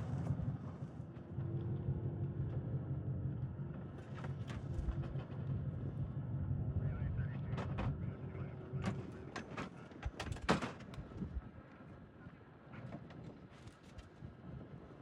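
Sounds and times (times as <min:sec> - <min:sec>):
distant engine hum: 0:00.0 - 0:13.4.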